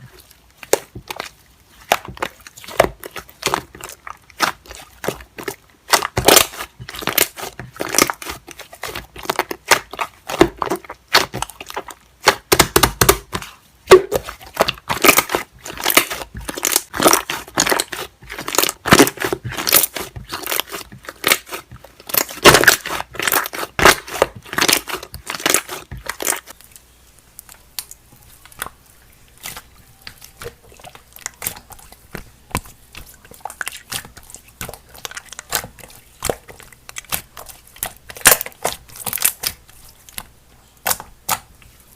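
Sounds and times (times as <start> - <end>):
slime crackling and popping: 0.0 - 41.7.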